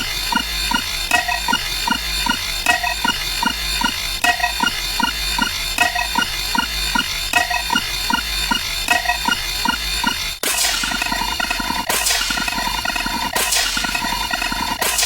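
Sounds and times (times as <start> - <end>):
low rhythmic thuds: 0.0 - 15.0.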